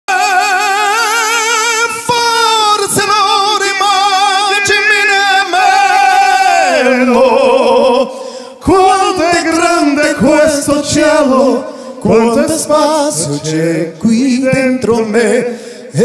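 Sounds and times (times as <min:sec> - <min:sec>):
two men singing in harmony: 0:00.1 - 0:16.0.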